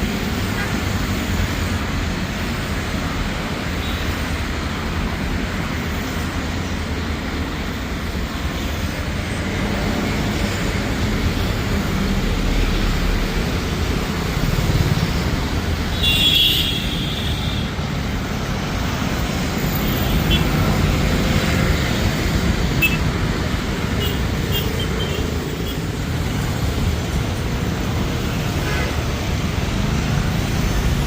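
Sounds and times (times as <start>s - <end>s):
jet engines roaring: 4.1s - 31.0s.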